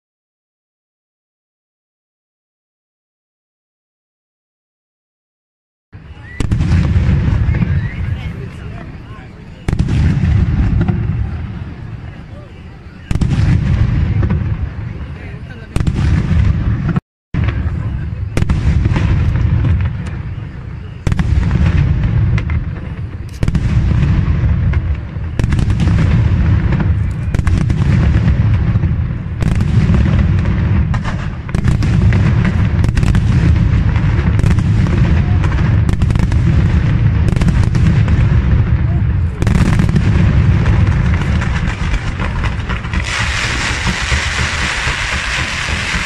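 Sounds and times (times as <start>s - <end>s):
fireworks launches and bangs: 6.0s - 46.0s.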